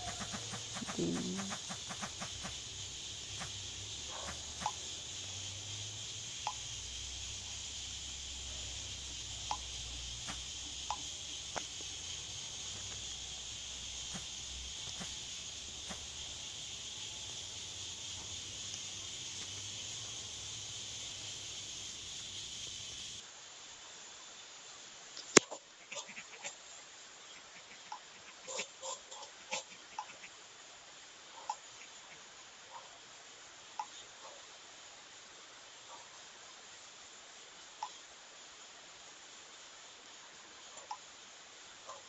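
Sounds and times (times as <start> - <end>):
faint chirps and ticks: 0.0 - 23.2, 25.1 - 30.4, 31.2 - 33.0, 33.7 - 34.6, 35.8 - 36.3, 37.6 - 39.0, 40.6 - 41.2, 41.8 - 42.0
high-pitched hiss: 0.0 - 25.6, 26.4 - 42.0.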